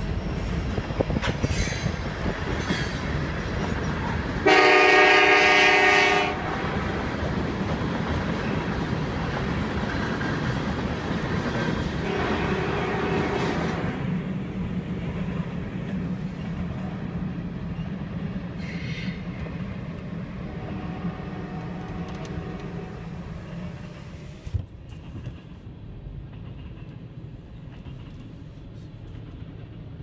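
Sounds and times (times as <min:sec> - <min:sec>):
freight train rumbling on rails: 0:00.0 - 0:30.0.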